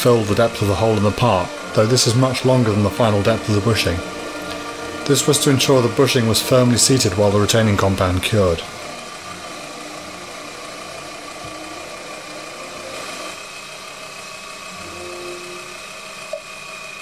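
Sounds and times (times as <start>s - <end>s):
lathe motor whine: 0.0s - 17.0s.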